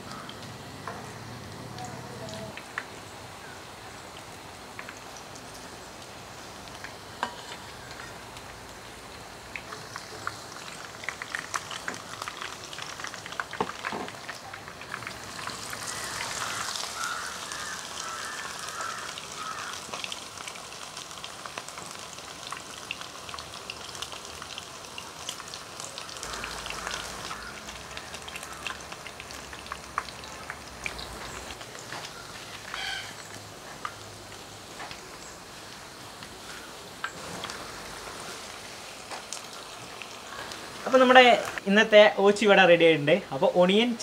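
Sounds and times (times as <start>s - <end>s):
fritters deep-frying in oil: 0.0s - 44.0s.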